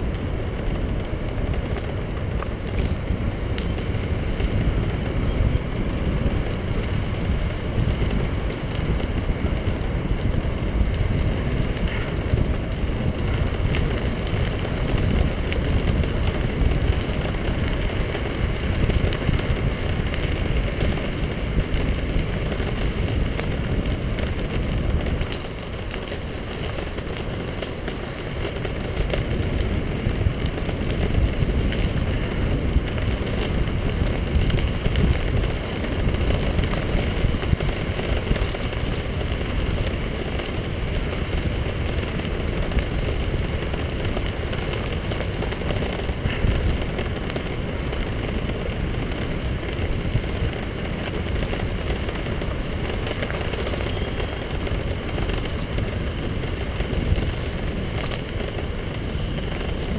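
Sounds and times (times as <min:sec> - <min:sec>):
tyres rolling over gravel: 0:00.0 - 0:59.9
wind on microphone: 0:00.0 - 0:59.9.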